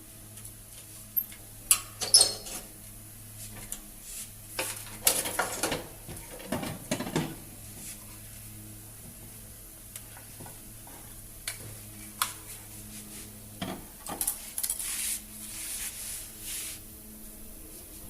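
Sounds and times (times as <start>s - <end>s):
steady low hum: 0.0s - 5.1s, 5.8s - 18.0s.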